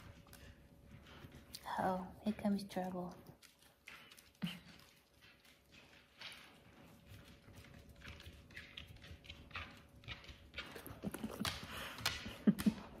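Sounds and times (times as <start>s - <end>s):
dog snuffling and sniffing: 0.0s - 12.3s.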